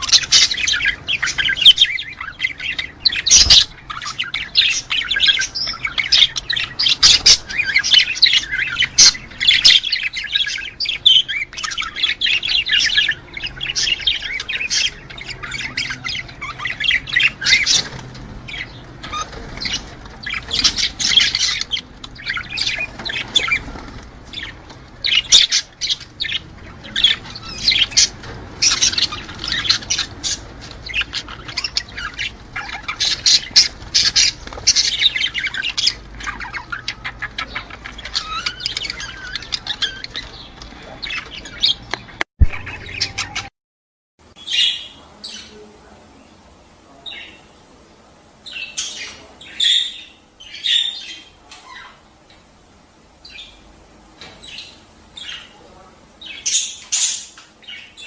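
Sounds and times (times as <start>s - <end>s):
budgerigars chattering: 0.0s - 43.5s, 48.4s - 52.1s, 53.2s - 58.0s.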